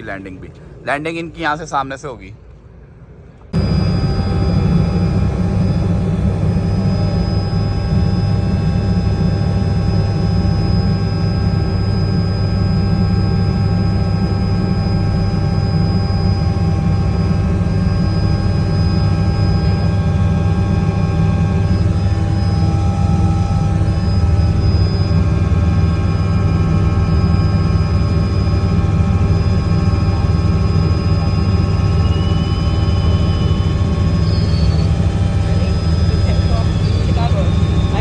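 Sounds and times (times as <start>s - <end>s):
helicopter rotor rumble: 0.0s - 2.0s, 3.5s - 38.0s
helicopter turbine whine: 0.0s - 2.2s, 3.0s - 38.0s.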